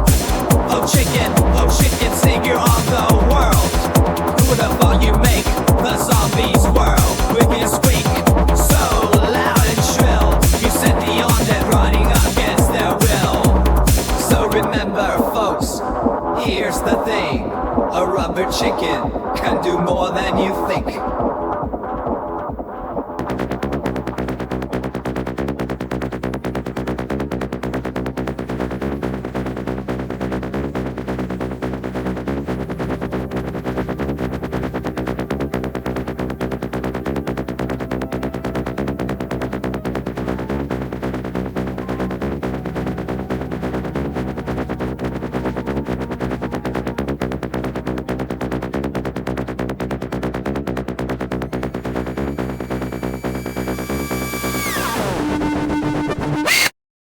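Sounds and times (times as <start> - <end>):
electronic dance music: 0.0 - 56.7.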